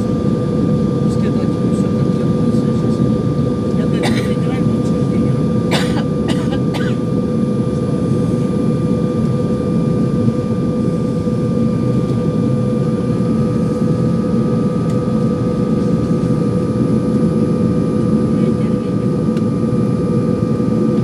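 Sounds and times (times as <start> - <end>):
airliner cabin engine drone: 0.0 - 21.0
constant hum: 0.0 - 21.0.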